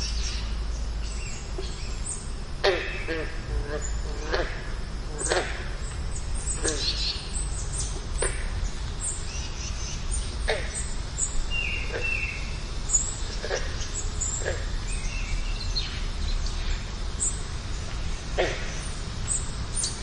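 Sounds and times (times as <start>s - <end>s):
birds calling: 0.0s - 20.0s
low background rumble: 0.0s - 20.0s.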